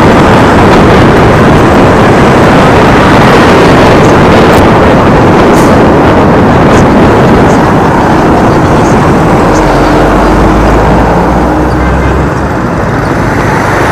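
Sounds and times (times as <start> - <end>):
low engine drone: 0.0 - 13.9
wind rush and road noise: 0.0 - 13.9.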